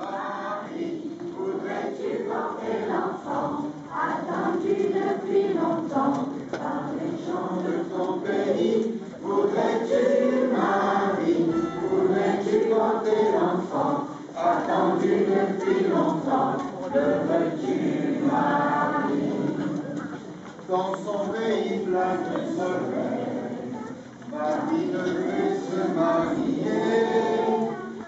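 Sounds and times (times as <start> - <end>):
choir singing a hymn: 0.0 - 20.1, 20.7 - 28.0.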